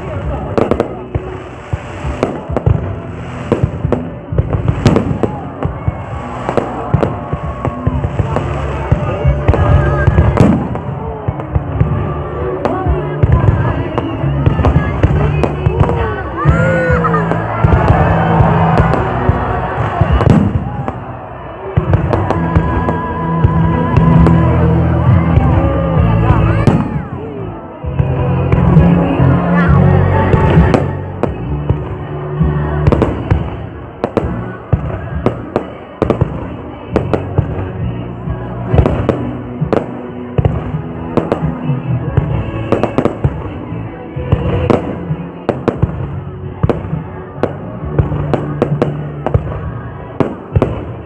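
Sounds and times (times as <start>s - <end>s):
fireworks bangs and crackles: 0.0s - 51.0s
music playing: 0.0s - 51.0s.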